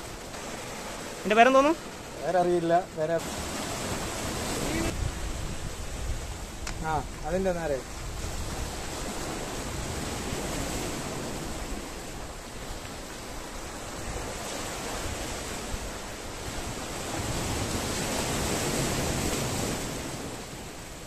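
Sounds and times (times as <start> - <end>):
waves breaking on rocks: 0.0 - 21.0.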